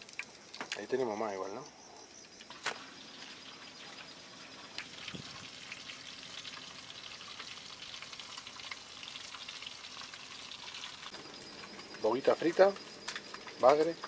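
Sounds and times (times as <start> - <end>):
fish frying in oil: 0.0 - 1.5, 2.4 - 14.0.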